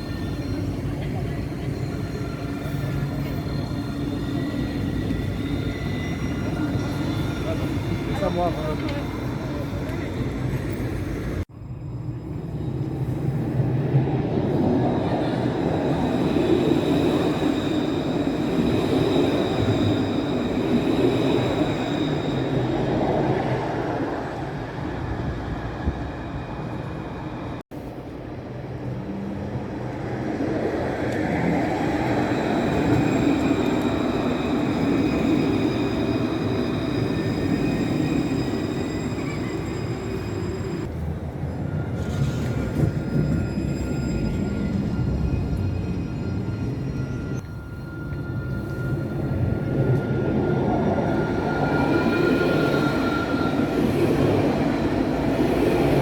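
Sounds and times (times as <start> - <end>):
tram running on rails: 0.0 - 56.0.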